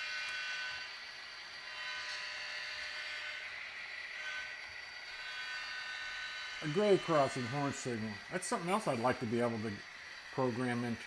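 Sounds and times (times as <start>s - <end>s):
model locomotive engine sound: 0.0s - 11.0s.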